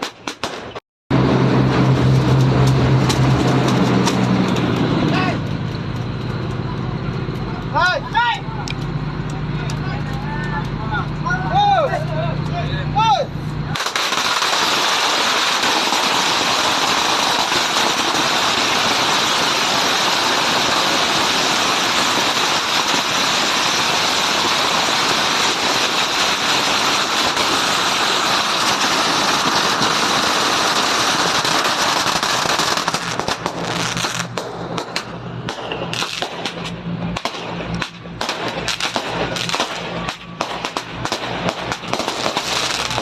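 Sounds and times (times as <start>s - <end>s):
firecrackers crackling: 0.0s - 43.0s.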